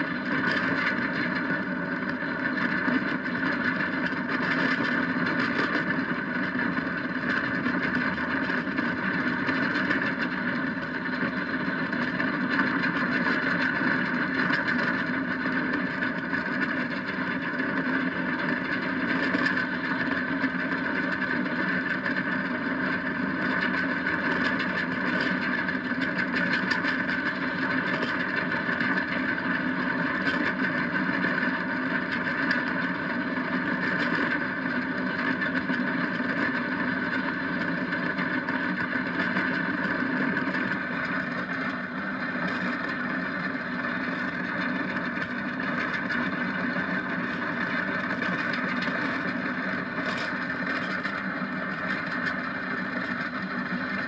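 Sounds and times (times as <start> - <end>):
go kart wheels rolling on asphalt: 0.0 - 54.0.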